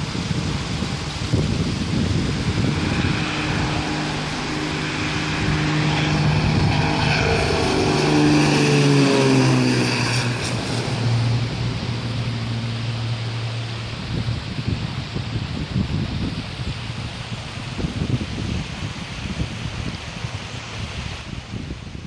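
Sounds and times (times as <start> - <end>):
propeller aircraft passing: 0.0 - 22.0.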